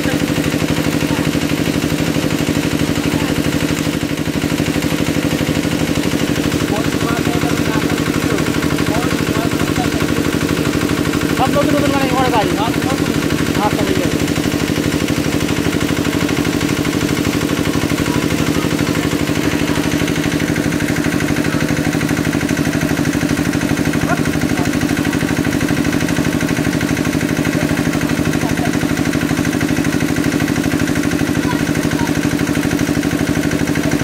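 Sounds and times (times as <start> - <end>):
small engine running steadily: 0.0 - 34.0.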